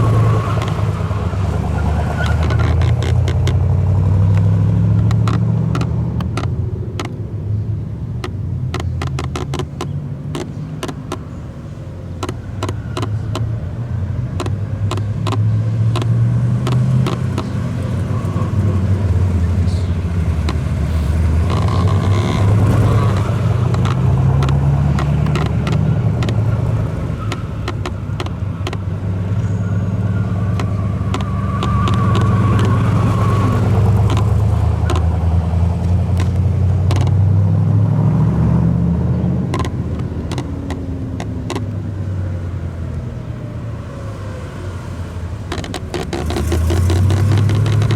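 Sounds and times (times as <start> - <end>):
sharp clicks: 0.0 - 11.5, 12.1 - 13.7, 14.3 - 37.3, 39.2 - 42.0, 45.4 - 47.9
car engine revving: 0.0 - 47.9.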